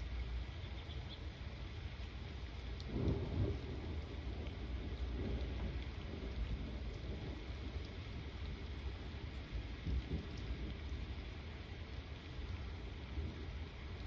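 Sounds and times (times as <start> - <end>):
steady rain falling: 0.0 - 14.0
low rumble of thunder: 1.7 - 14.0.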